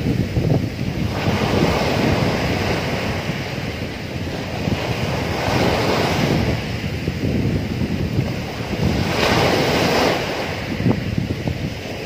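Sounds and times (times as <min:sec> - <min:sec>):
waves washing on sandy beach: 0:00.0 - 0:12.0.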